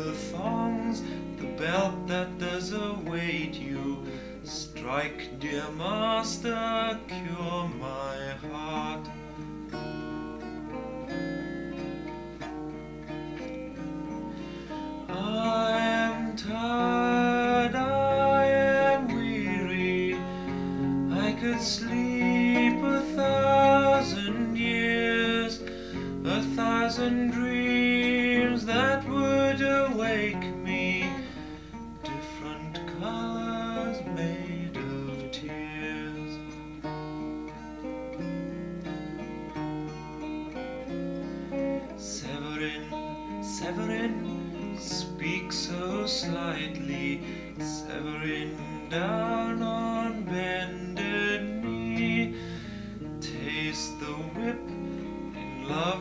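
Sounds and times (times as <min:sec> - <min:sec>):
person singing: 0:00.0 - 0:12.5, 0:13.3 - 0:56.0
strummed acoustic guitar: 0:00.0 - 0:56.0.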